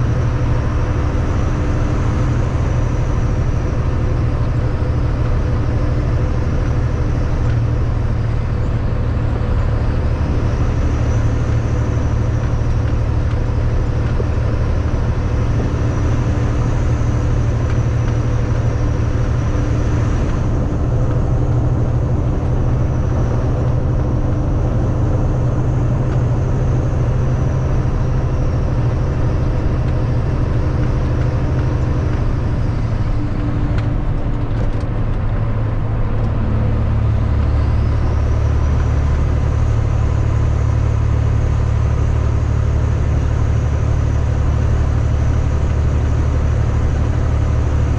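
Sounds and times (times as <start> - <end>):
road noise: 0.0 - 47.9
truck diesel engine droning: 0.0 - 47.9.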